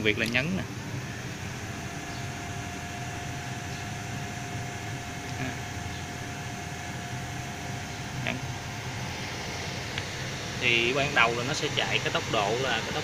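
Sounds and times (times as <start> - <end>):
control cabinet fan humming: 0.0 - 13.0
thin steady whine: 0.0 - 13.0.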